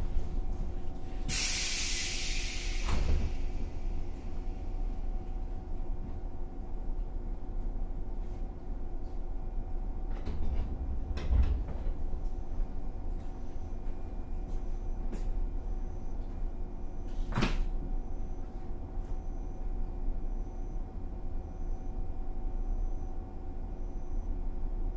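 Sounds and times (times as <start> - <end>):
train equipment humming: 0.0 - 24.9.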